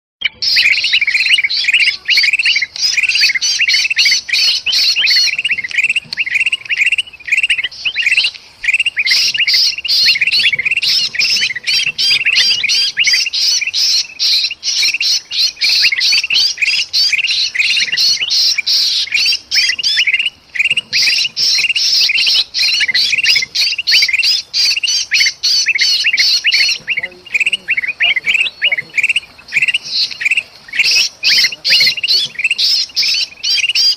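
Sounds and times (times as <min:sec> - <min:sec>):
bird distress cries: 0:00.2 - 0:33.9
bulbuls chattering in alarm: 0:00.2 - 0:33.9.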